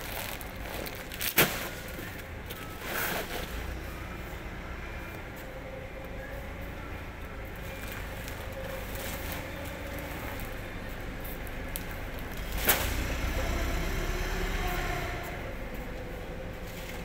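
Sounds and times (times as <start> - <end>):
rumbling warehouse background noise: 0.0 - 17.0.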